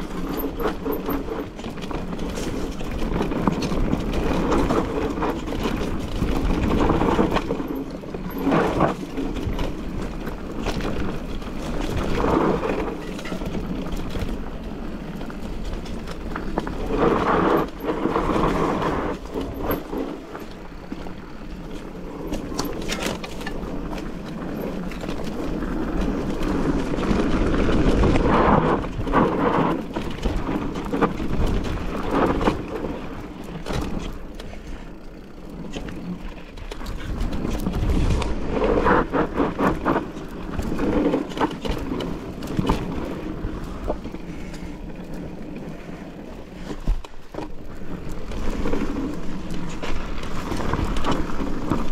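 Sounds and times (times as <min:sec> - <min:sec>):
bike rattling: 0:00.0 - 0:51.9
bike tyres rolling over stones: 0:00.0 - 0:51.9.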